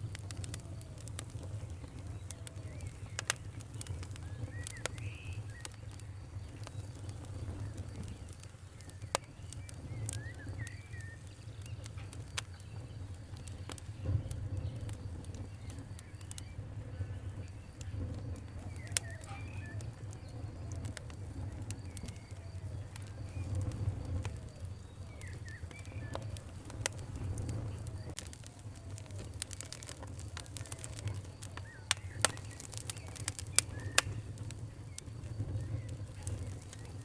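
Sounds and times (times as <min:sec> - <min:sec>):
birds chirping: 0:00.0 - 0:37.0
wood fire crackling and popping: 0:00.0 - 0:37.0.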